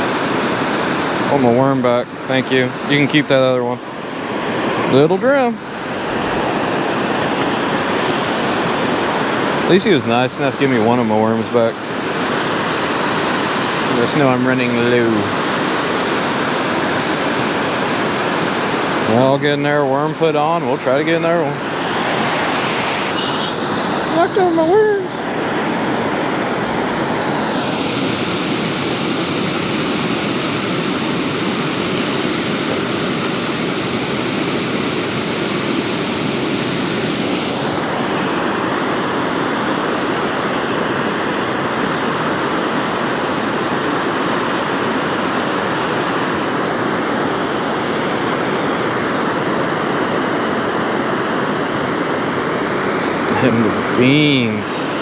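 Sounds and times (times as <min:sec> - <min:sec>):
water roaring through spillway: 0:00.0 - 0:55.0.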